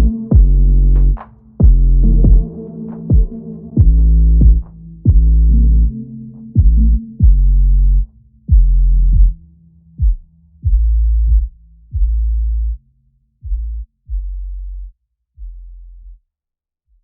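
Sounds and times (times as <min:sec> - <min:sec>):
deep booming bass notes: 0:00.0 - 0:09.4, 0:10.0 - 0:12.8, 0:13.4 - 0:16.1.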